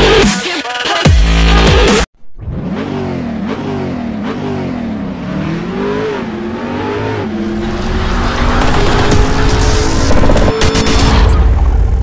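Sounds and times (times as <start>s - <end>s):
car engine revving: 2.4s - 12.0s.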